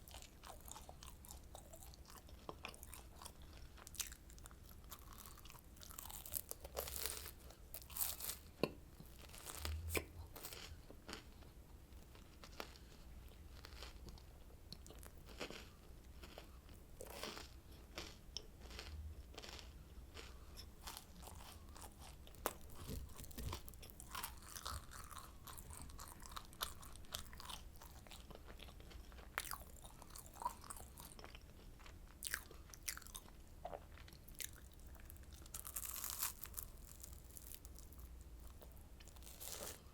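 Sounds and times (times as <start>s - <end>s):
crunchy sweet being chewed: 0.0s - 39.9s.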